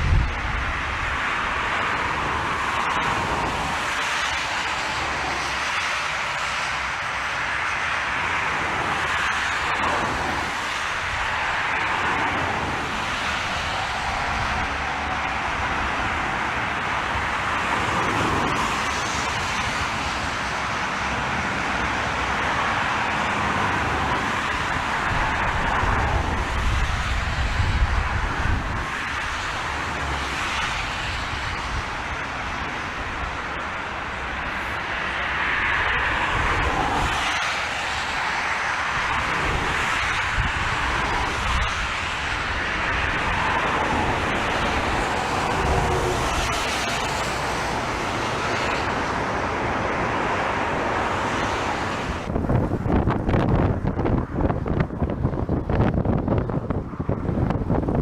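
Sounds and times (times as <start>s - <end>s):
airliner engines running: 0.0s - 58.0s
wind rumbling on microphone: 0.0s - 58.0s.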